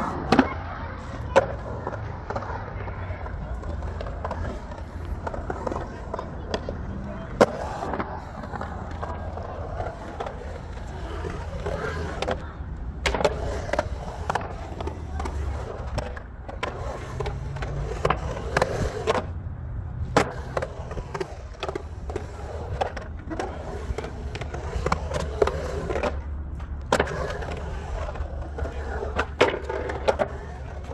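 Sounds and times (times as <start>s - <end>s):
skateboard clacks: 0.0s - 30.9s
skateboard wheels rolling on concrete: 0.0s - 30.9s.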